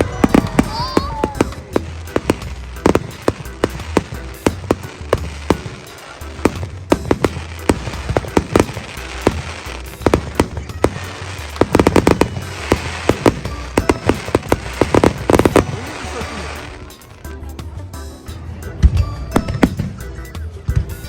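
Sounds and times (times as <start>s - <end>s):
fireworks bangs: 0.0s - 17.2s, 19.4s - 20.0s.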